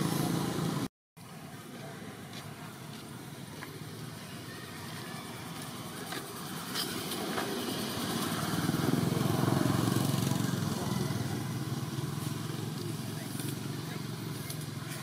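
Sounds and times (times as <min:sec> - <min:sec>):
vehicle engine droning: 0:00.0 - 0:00.9, 0:01.5 - 0:15.0.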